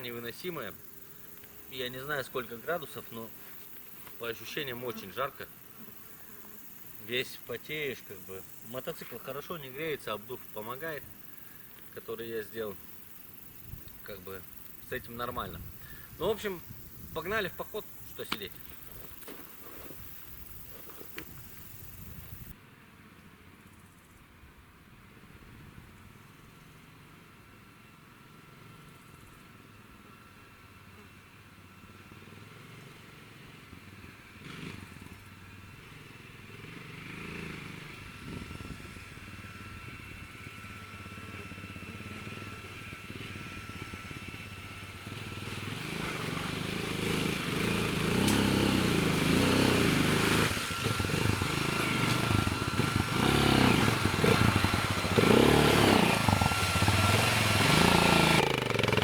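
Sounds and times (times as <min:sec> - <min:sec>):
motorcycle engine approaching: 0:00.0 - 0:22.6, 0:26.3 - 0:59.0.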